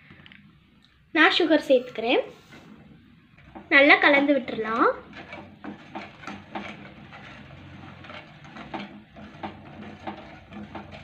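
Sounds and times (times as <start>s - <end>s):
spatula scraping a metal pot: 1.9s - 11.0s.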